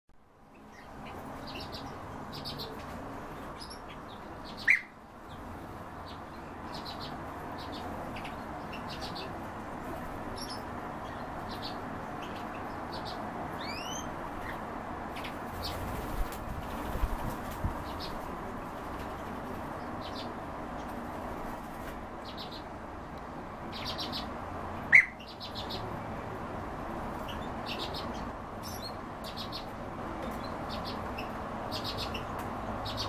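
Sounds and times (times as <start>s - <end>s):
birds chirping: 0.4s - 22.8s, 23.5s - 33.0s.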